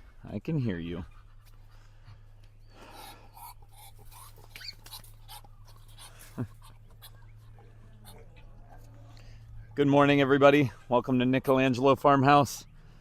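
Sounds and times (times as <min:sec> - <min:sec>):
faint farm animal noises: 0:00.0 - 0:13.0.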